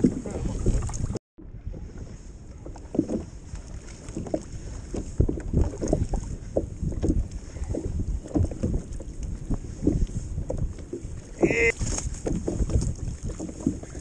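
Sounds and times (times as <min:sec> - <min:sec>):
water lapping against kayak hull: 0:00.0 - 0:14.0
wind buffeting microphone: 0:00.0 - 0:14.0.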